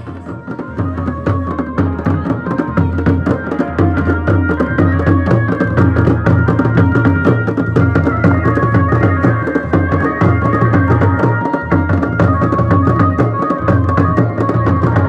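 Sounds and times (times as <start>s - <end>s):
drums beaten in fast rhythm: 0.0s - 15.0s.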